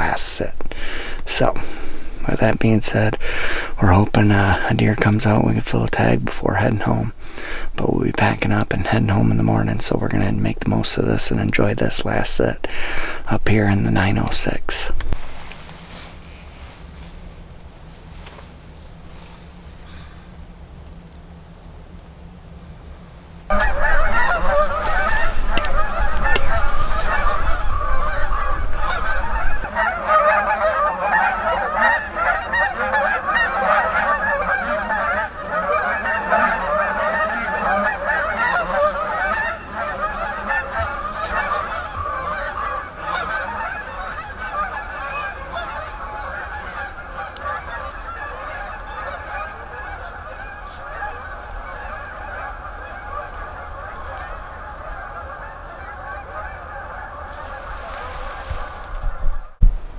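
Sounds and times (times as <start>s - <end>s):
flock of geese honking: 0.0s - 59.6s.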